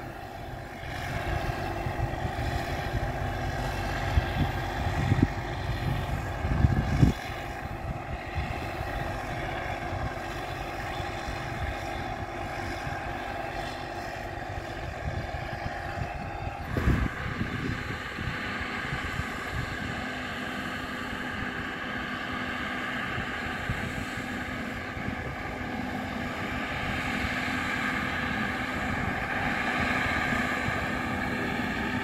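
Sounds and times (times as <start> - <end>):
tractor diesel engine under load: 0.0 - 32.0
wind buffeting microphone: 0.0 - 32.0.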